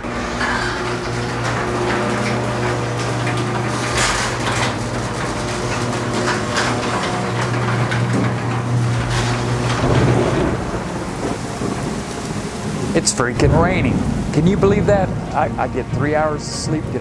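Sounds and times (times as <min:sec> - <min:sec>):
garage door motor humming and rattling: 0:00.0 - 0:17.0
rain falling: 0:00.0 - 0:17.0.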